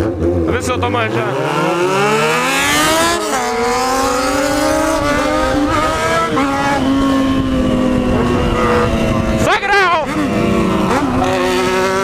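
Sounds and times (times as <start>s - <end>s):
motorcycle engine with loud exhaust: 0.0s - 12.0s
wind rush: 2.4s - 12.0s.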